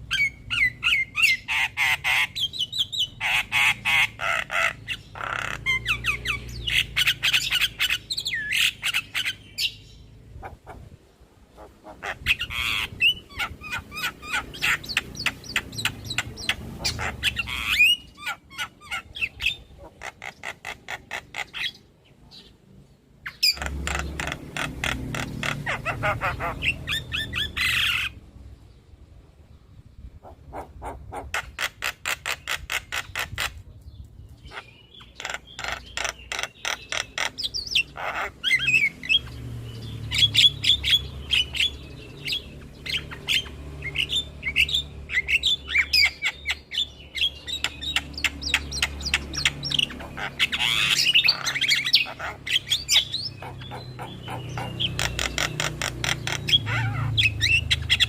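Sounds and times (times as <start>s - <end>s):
bird chattering song with squawks: 0.0s - 10.9s, 11.5s - 22.6s, 23.2s - 28.2s, 30.0s - 58.0s.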